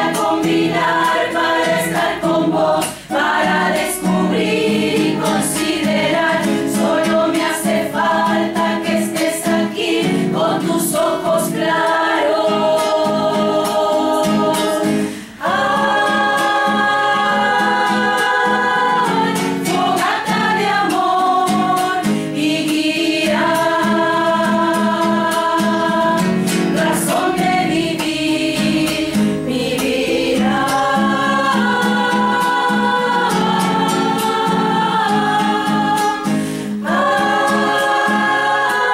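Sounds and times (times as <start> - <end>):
choir singing in harmony: 0.0 - 38.9
guitar accompaniment: 0.0 - 38.9.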